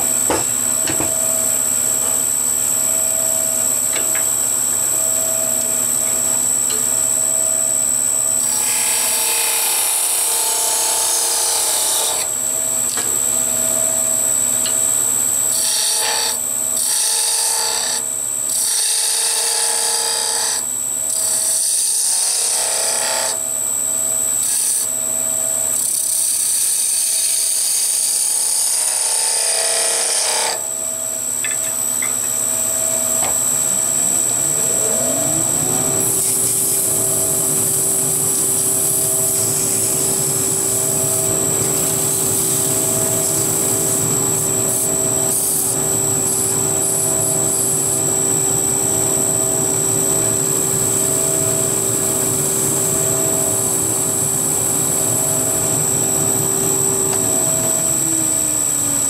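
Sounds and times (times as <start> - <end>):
wood lathe humming and whining: 0.0 - 59.0.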